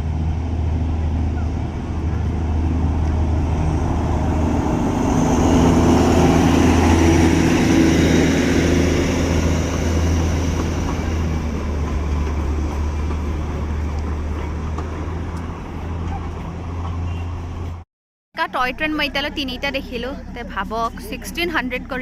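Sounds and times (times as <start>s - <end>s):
train engine droning past: 0.0s - 17.8s.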